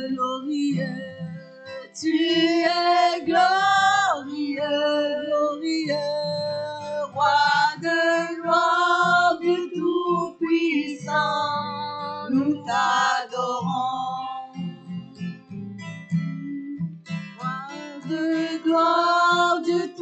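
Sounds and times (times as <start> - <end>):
women singing: 0.0 - 14.9, 16.2 - 20.0
strummed acoustic guitar: 0.0 - 20.0.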